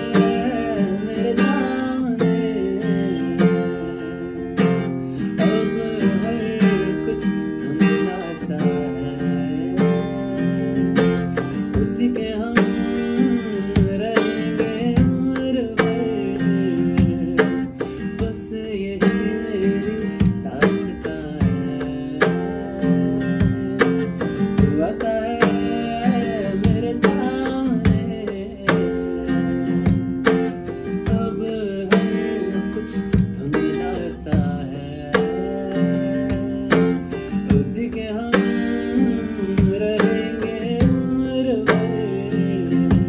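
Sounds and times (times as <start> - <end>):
acoustic guitar strumming: 0.0 - 43.0
person singing: 0.0 - 43.0.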